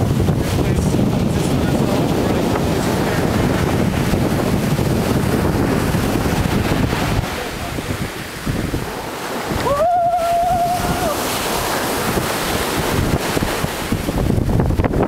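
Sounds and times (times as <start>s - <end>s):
surf running up sand: 0.0s - 15.0s
wind buffeting microphone: 0.0s - 15.0s.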